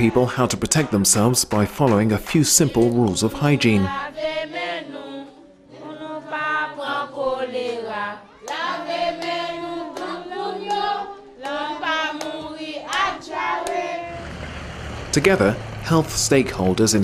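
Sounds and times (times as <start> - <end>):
group singing in unison: 0.0 - 14.4.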